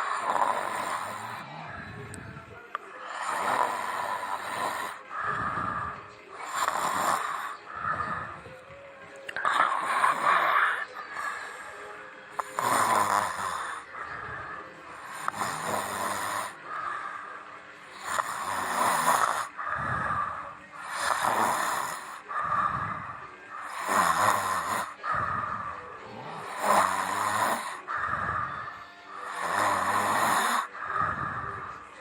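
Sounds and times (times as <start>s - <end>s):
person snoring: 0.0s - 32.0s.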